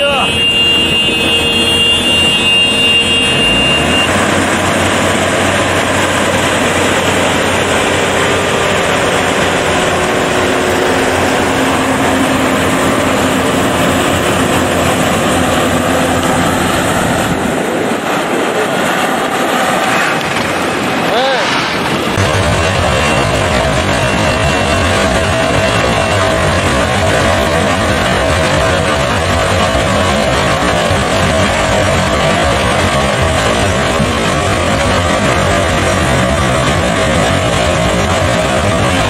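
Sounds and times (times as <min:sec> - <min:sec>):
combine harvester running: 0:00.0 - 0:39.0.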